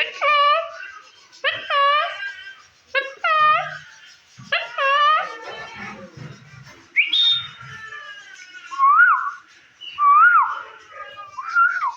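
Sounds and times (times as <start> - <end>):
parakeet calling and whistling: 0.0 - 6.0, 6.9 - 11.9.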